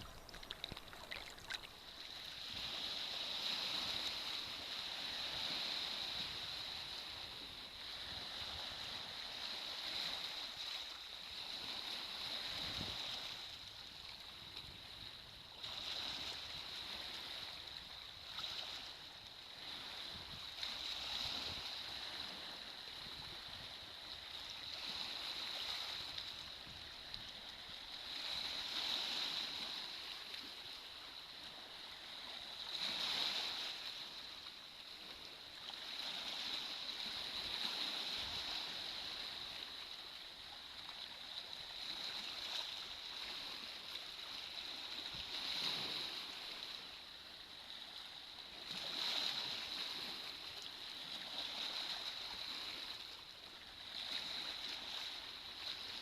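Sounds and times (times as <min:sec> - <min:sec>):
small waves washing onto beach: 0:00.0 - 0:56.0.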